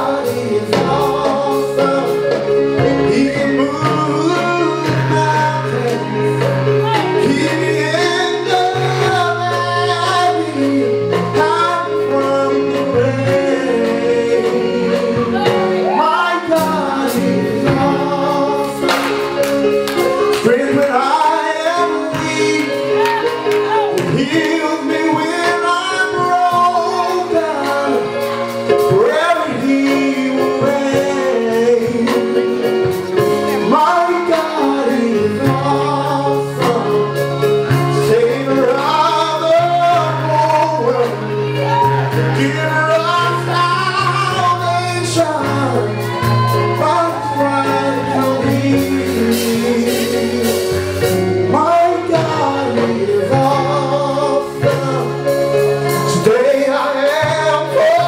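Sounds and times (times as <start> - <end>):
electric keyboards: 0.0 - 58.0
man singing: 0.0 - 58.0.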